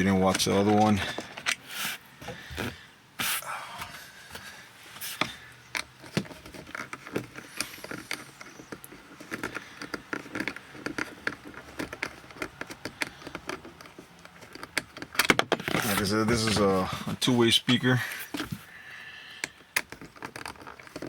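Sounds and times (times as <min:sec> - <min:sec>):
clicks taps and scrapes: 0:00.0 - 0:21.0.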